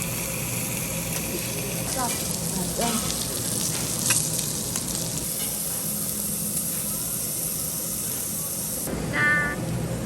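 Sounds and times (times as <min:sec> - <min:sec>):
food sizzling in a pan: 0:00.0 - 0:08.9.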